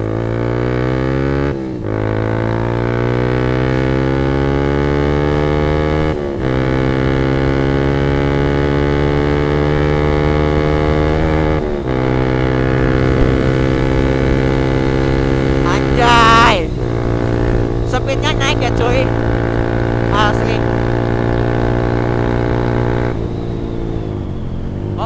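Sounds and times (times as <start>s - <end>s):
motorcycle engine accelerating hard: 0.0s - 25.0s.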